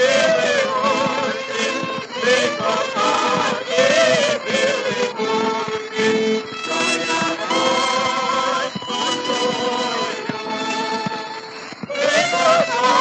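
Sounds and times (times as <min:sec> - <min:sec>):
small orchestra accompaniment: 0:00.0 - 0:13.0
vocal quartet singing in harmony: 0:00.0 - 0:13.0.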